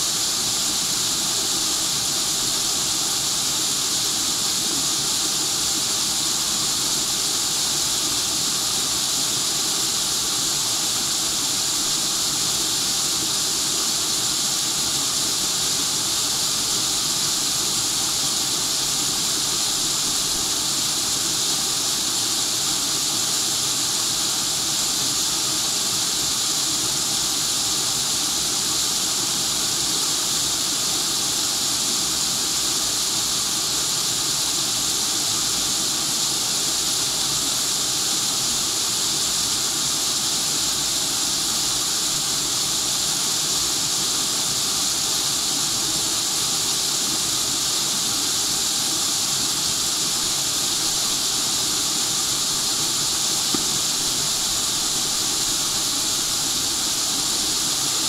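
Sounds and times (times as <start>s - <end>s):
waterfall rushing over rocks: 0.0s - 58.0s.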